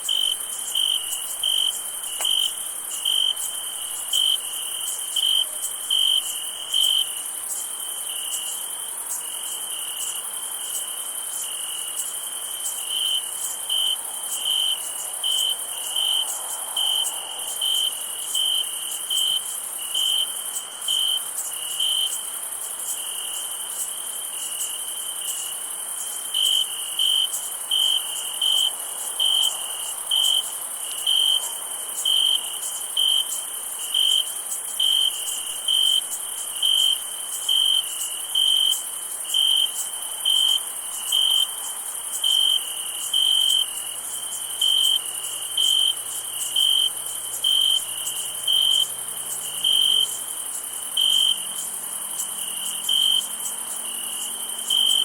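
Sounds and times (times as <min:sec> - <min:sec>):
crickets chirping: 0:00.0 - 0:55.0
insect chorus: 0:00.0 - 0:55.0.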